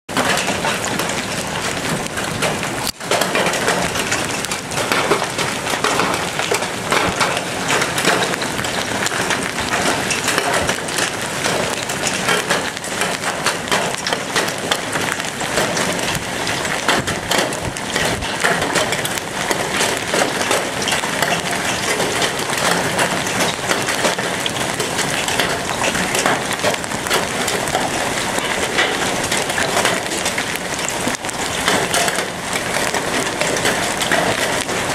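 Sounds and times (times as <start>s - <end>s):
hailstones clattering: 0.1s - 34.9s
sharp cracks of hailstones: 0.1s - 34.9s.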